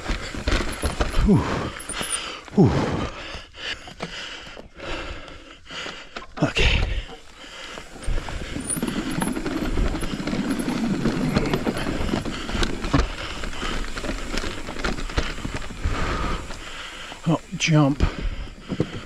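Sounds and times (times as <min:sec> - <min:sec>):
bike clattering over bumps: 0:00.0 - 0:02.5, 0:03.1 - 0:19.0
tyres rolling on dirt and gravel: 0:00.0 - 0:19.0.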